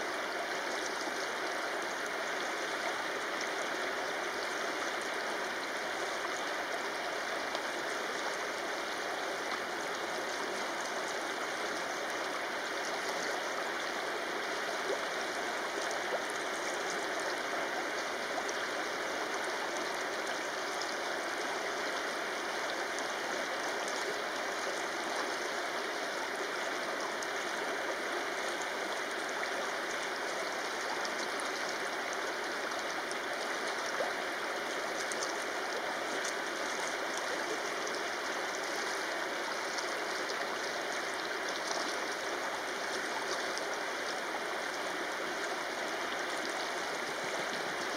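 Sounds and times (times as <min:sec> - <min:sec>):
river rushing over stones: 0:00.0 - 0:47.9.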